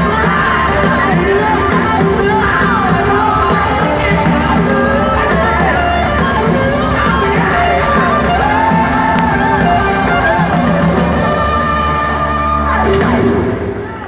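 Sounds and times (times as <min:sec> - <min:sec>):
hard rock band playing live: 0:00.0 - 0:14.0.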